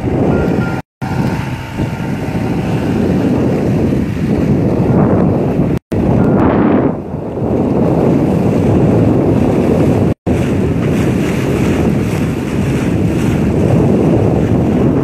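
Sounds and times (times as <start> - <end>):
sea water rushing past hull: 0.0 - 15.0
wind buffeting the microphone: 0.0 - 15.0.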